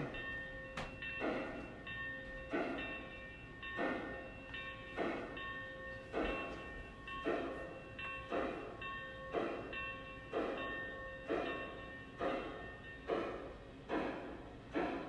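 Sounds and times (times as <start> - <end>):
model steam train chuffing: 1.2 - 4.3, 4.9 - 5.5, 6.1 - 15.0.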